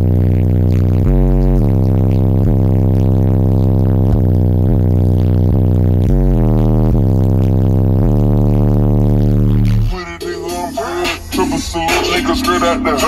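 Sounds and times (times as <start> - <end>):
bass-heavy electronic music: 0.0 - 13.0.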